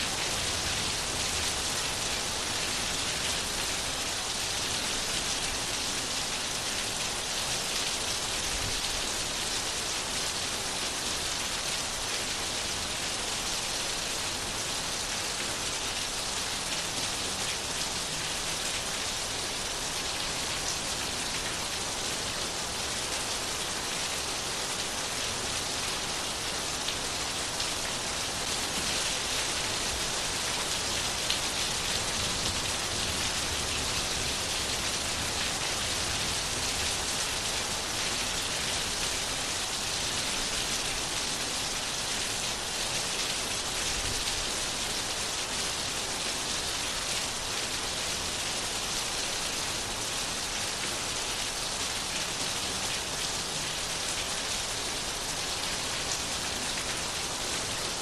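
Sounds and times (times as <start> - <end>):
rain pattering on a surface: 0.0 - 58.0.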